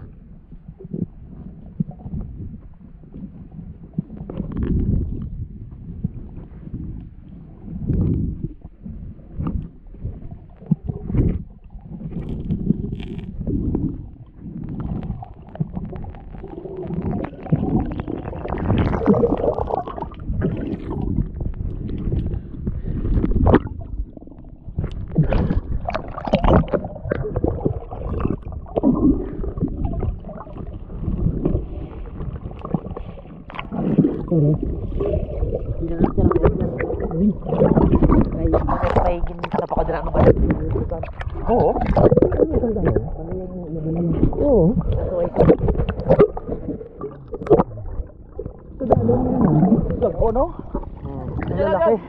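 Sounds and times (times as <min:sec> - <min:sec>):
underwater water sloshing: 0:00.0 - 0:52.0
knocks and bubbly splashes: 0:07.6 - 0:52.0.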